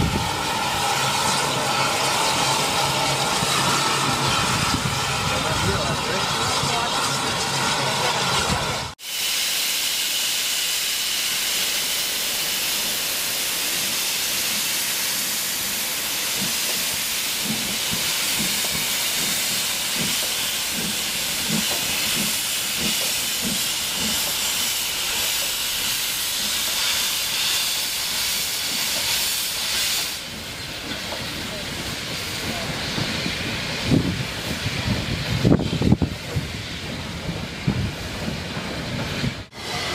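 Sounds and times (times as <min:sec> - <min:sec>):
loud steady hiss of steam: 0:00.0 - 0:39.9
steam locomotive chuffing: 0:00.0 - 0:39.9.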